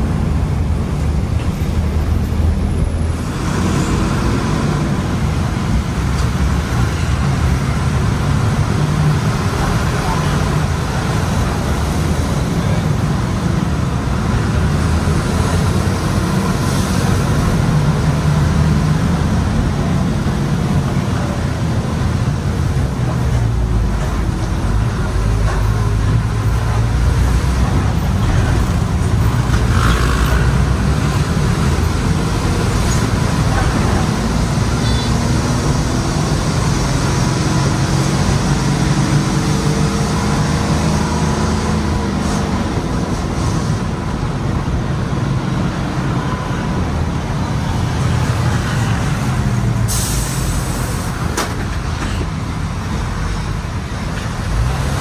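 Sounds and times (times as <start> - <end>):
bus engine running: 0.0 - 55.0
road noise: 0.0 - 55.0
wind through open window: 0.0 - 55.0.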